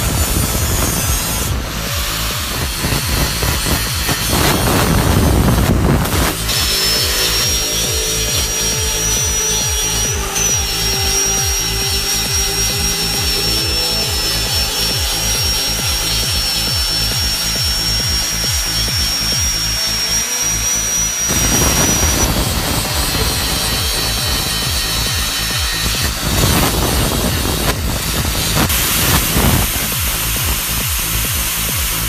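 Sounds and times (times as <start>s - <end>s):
disc sander whining: 0.0s - 32.0s
sanding disc rasping: 0.0s - 32.0s.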